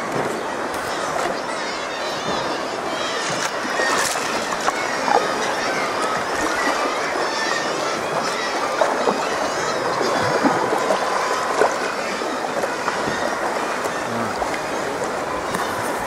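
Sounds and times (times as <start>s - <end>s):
paddle splashes: 0.0s - 16.0s
water lapping against kayak hull: 0.0s - 16.0s.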